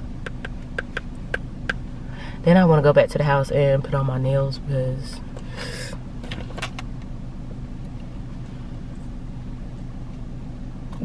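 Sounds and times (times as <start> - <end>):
low hum inside car cabin: 0.0 - 11.0.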